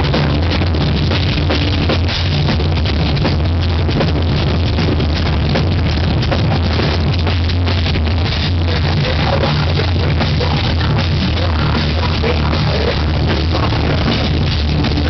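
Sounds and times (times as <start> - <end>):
fast drums: 0.0 - 15.0
live metal band playing: 0.0 - 15.0.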